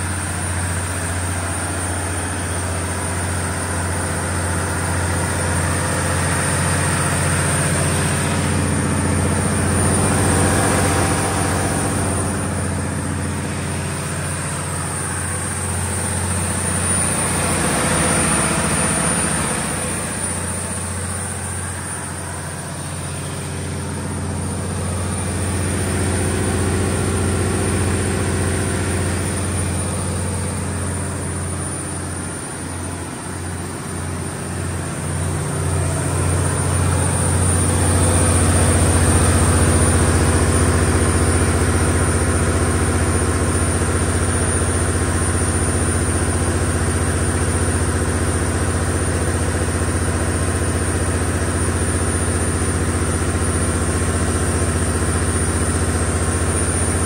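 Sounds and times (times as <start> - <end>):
diesel generator running: 0.0 - 57.0.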